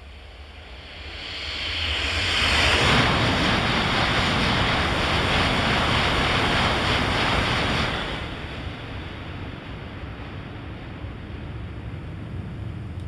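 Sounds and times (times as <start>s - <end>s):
train passing at high speed: 0.0s - 13.0s.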